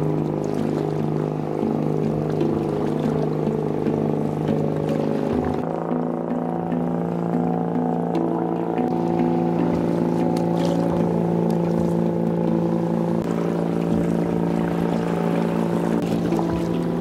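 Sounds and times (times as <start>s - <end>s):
festival music melody over low drone: 0.0s - 17.0s.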